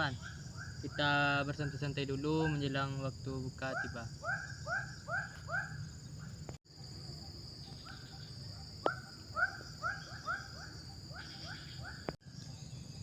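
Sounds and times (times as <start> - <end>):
high drone of insects: 0.0 - 13.0.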